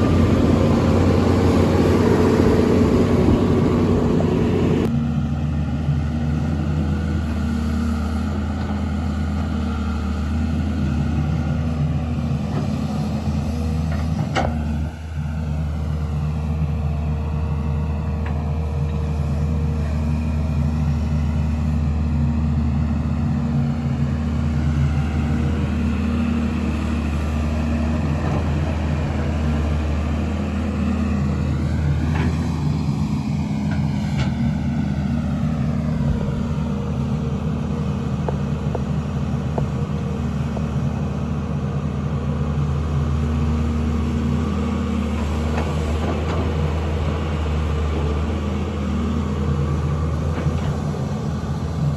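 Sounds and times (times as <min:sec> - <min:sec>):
excavator diesel engine drone: 0:00.0 - 0:51.9.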